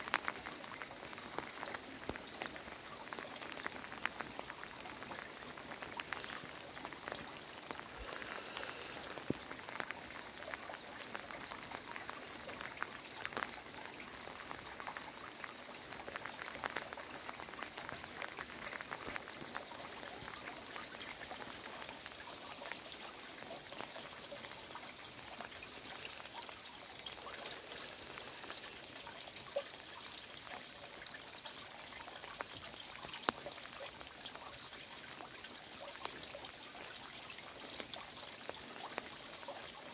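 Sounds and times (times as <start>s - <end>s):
heavy rain: 0.0s - 39.9s
raindrops tapping nearby: 0.0s - 39.9s.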